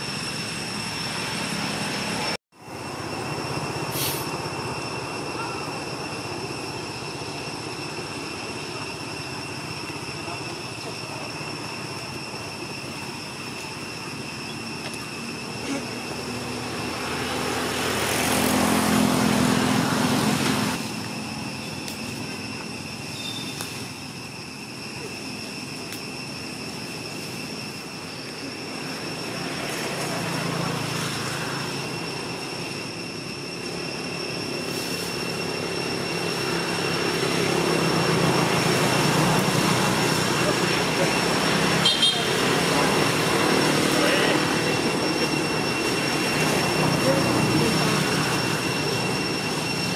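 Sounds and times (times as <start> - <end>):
vehicles passing on road: 0.0 - 24.0, 26.6 - 49.9
high-pitched whine: 0.0 - 49.9.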